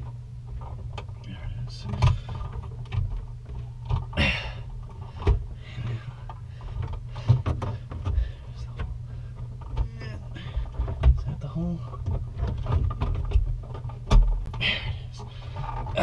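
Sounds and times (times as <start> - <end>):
knocks and clicks from handling wiring: 0.0 - 4.2, 4.8 - 16.0
steady low hum: 0.0 - 16.0.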